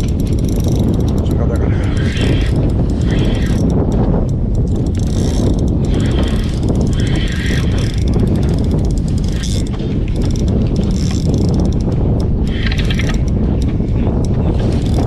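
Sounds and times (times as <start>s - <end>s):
fishing reel being cranked: 0.0s - 15.0s
wind buffeting microphone: 0.0s - 15.0s.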